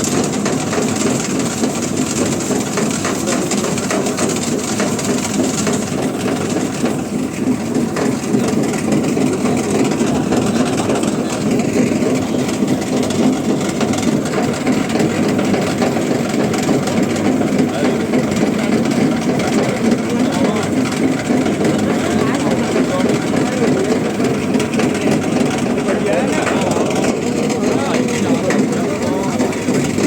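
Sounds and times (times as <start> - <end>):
heavy machinery engine droning: 0.0 - 30.0.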